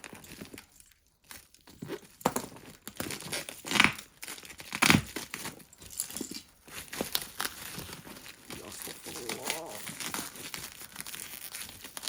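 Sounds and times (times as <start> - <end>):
packaging torn and crumpled: 0.0 - 12.0.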